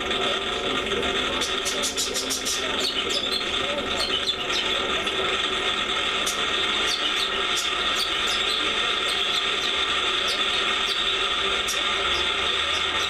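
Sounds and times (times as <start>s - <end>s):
high squeaks and rattles: 0.0s - 13.0s.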